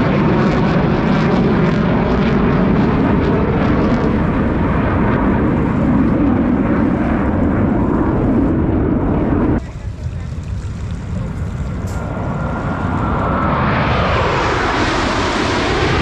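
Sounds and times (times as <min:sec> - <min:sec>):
jet crackle: 0:00.0 - 0:16.0
jet engine roar: 0:00.0 - 0:16.0.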